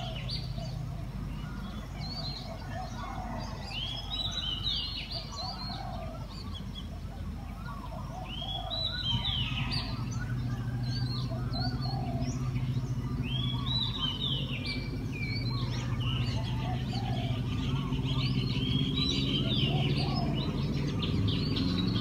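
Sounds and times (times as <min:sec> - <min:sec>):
birds singing: 0:00.0 - 0:22.0
steady low hum: 0:00.0 - 0:22.0.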